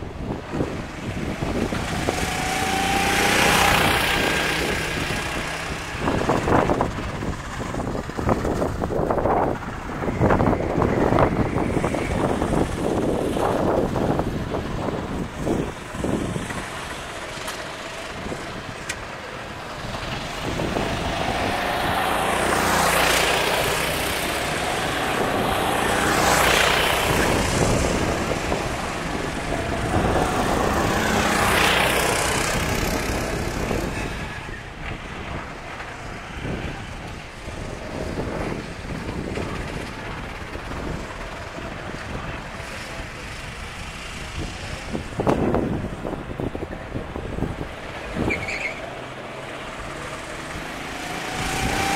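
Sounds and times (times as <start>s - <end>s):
distant kart engines: 0.0s - 51.9s
karts passing by: 0.0s - 51.9s.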